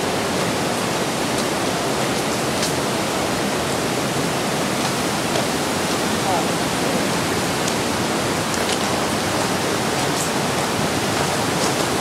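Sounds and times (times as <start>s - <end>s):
mountain river rushing: 0.0s - 12.0s.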